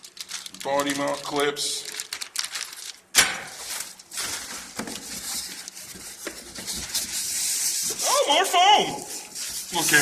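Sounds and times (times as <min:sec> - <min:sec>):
plastic and foam rustling: 0:00.0 - 0:10.0.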